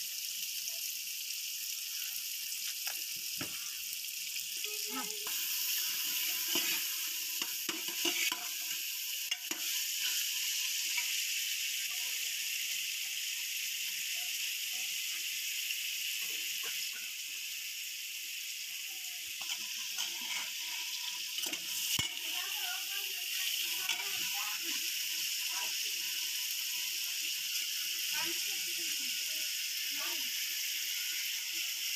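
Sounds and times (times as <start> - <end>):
potatoes sizzling in hot oil: 0.0 - 31.9.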